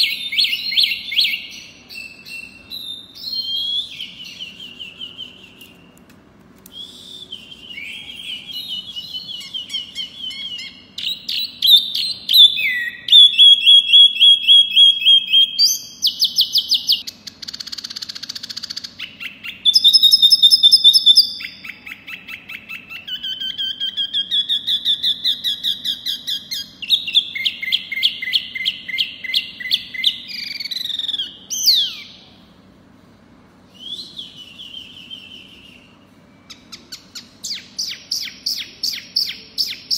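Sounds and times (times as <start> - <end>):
songbird singing: 0.0 - 6.1, 6.7 - 32.4, 33.8 - 39.9.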